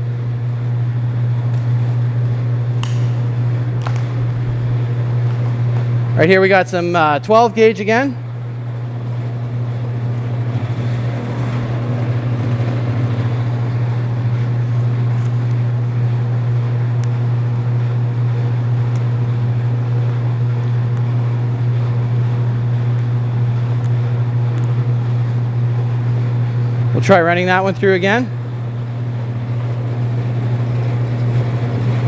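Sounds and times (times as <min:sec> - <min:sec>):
wire stripping machine humming: 0:00.0 - 0:32.0.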